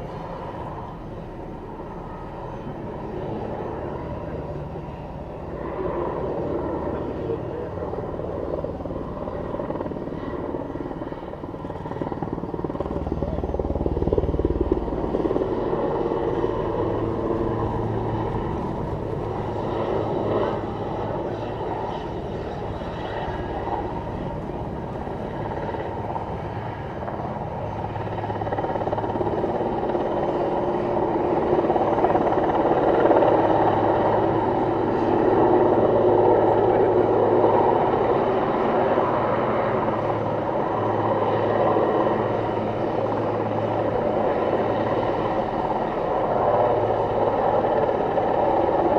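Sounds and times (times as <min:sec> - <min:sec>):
helicopter rotor and turbines: 0:00.0 - 0:48.9.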